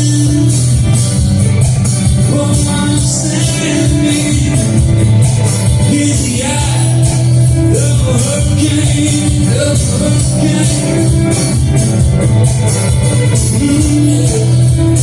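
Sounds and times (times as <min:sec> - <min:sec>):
bass guitar: 0:00.0 - 0:15.0
drums: 0:00.0 - 0:15.0
sliding lead melody: 0:00.0 - 0:15.0.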